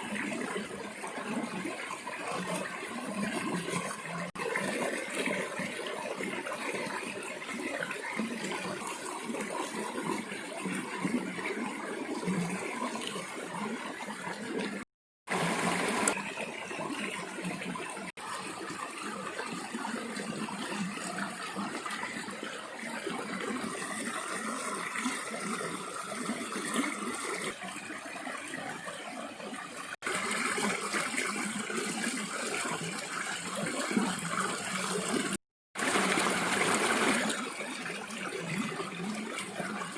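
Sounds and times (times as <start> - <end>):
running splashing water: 0.0 - 39.9.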